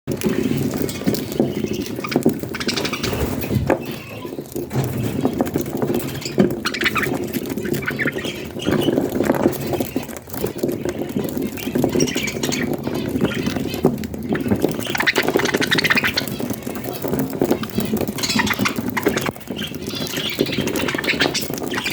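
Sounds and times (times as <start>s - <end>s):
budgies chirping and chattering: 0.1s - 21.9s.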